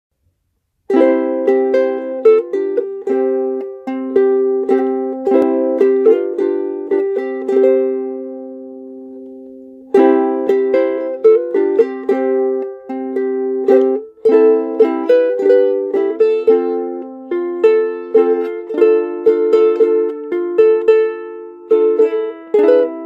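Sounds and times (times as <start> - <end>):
ukulele playing a slow hymn: 0.9 - 23.0.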